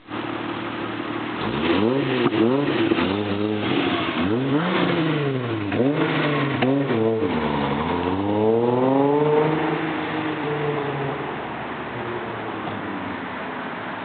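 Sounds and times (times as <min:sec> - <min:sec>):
car engine revving: 0:00.2 - 0:14.0.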